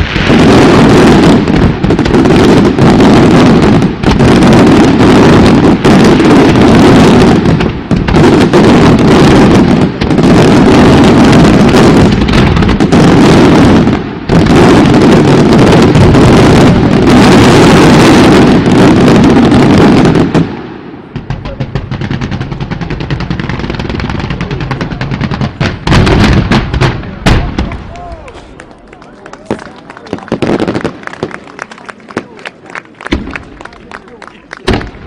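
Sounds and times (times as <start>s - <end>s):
fireworks bursts and bangs: 0.0s - 35.0s.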